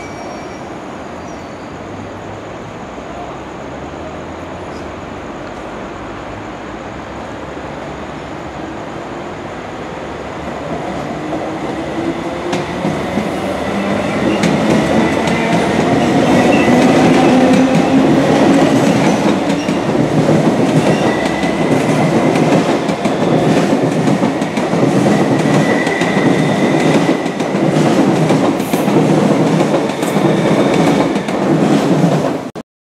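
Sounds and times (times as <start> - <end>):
electric train passing: 0.0 - 32.6
rising train whine: 0.0 - 32.6.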